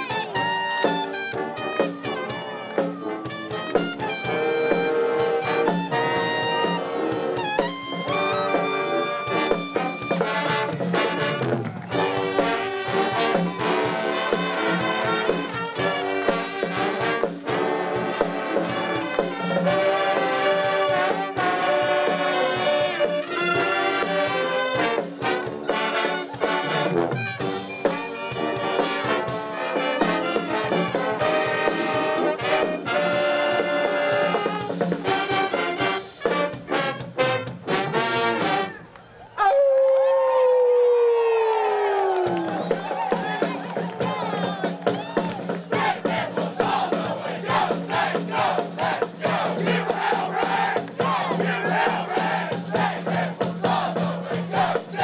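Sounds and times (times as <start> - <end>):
pep band playing loudly: 0.0 - 38.8, 41.9 - 55.0
trumpets and trombones: 0.0 - 38.9, 45.4 - 55.0.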